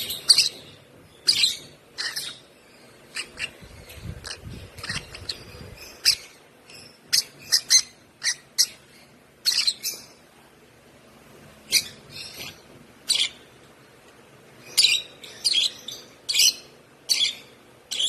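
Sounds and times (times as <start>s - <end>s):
lovebird chirping: 0.0s - 10.2s, 11.7s - 13.5s, 14.6s - 18.0s.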